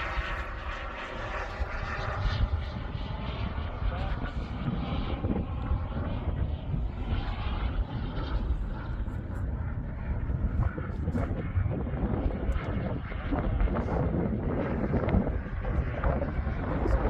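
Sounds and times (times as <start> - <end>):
jet turbine rushing: 0.0 - 17.0
wind on microphone: 0.0 - 17.0.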